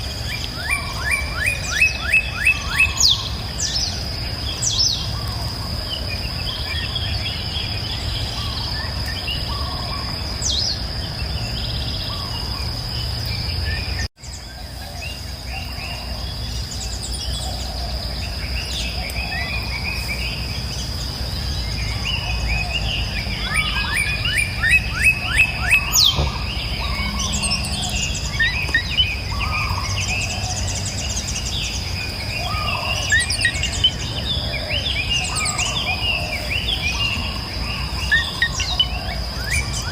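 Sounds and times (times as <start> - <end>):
songbirds chirping and calling: 0.0 - 39.9.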